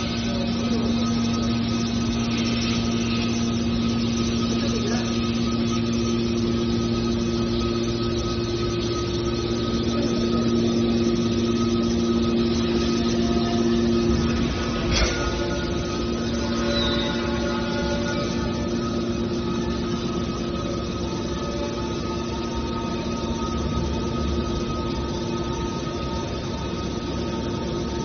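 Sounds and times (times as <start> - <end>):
hydraulic machine hum: 0.0 - 28.0.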